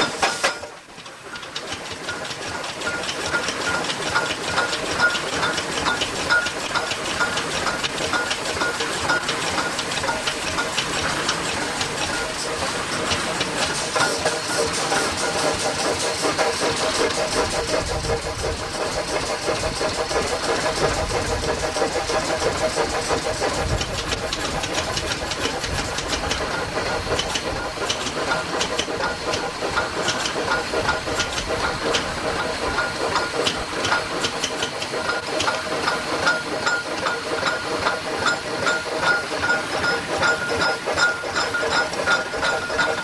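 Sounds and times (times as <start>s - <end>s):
sharp clicks and knocks: 0.0s - 43.0s
steam hissing: 0.0s - 43.0s.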